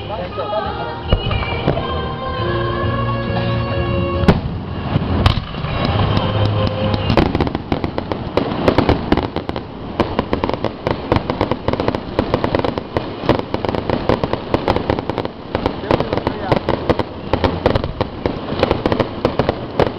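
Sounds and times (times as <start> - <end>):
rapid crackle of fireworks: 1.1 - 1.9, 4.2 - 19.9
firework bangs: 1.1 - 2.5, 3.3 - 19.9.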